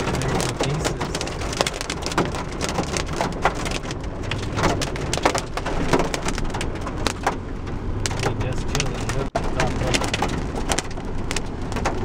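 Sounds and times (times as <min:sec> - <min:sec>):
car driving on wet road: 0:00.0 - 0:12.0
heavy rain on car windshield: 0:00.0 - 0:12.0.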